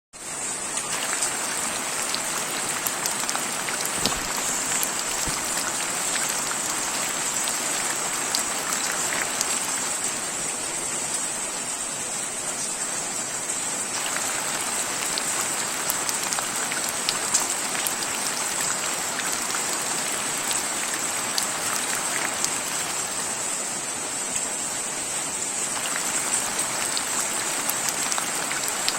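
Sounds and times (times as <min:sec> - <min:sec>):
rain drops pattering: 0:00.2 - 0:23.7, 0:25.6 - 0:28.9
rain hiss: 0:00.2 - 0:28.9.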